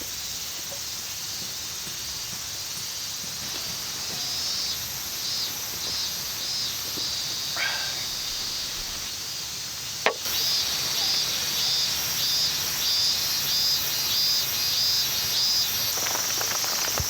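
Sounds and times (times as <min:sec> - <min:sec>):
insects buzzing: 0:00.0 - 0:17.0
pulsing insect chirp: 0:00.0 - 0:17.0.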